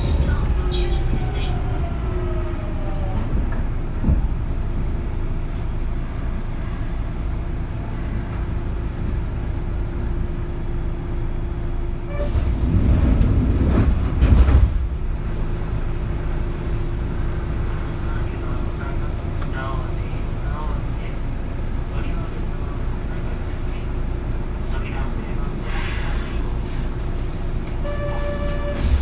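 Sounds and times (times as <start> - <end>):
train rumble and hum: 0.0 - 29.0.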